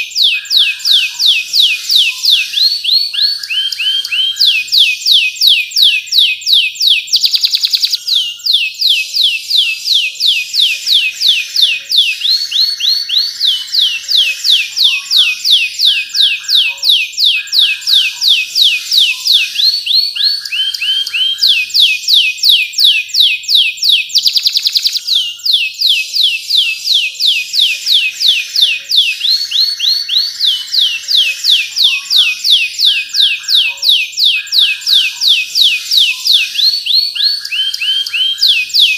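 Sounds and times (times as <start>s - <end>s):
canary singing fast trills: 0.0s - 38.9s.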